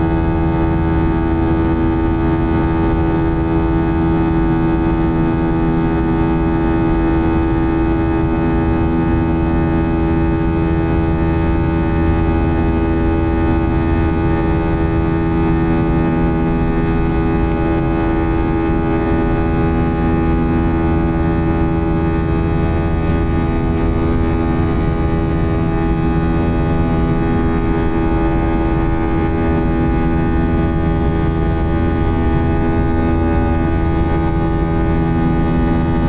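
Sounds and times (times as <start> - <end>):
jet engine drone inside cabin: 0.0 - 36.0.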